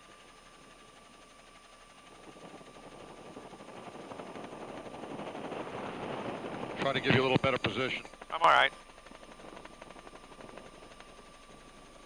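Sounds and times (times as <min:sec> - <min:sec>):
helicopter noise: 0:02.0 - 0:12.0.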